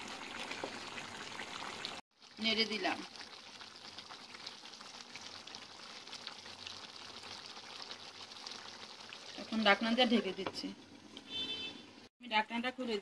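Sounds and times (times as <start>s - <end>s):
meat sizzling in a pan: 0.0s - 11.4s.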